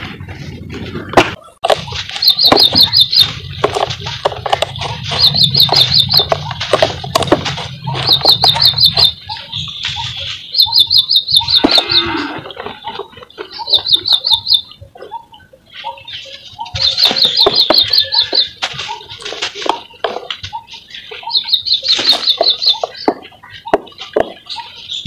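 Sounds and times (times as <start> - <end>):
bird chirping: 1.4 - 25.0
low bird call: 1.8 - 25.0.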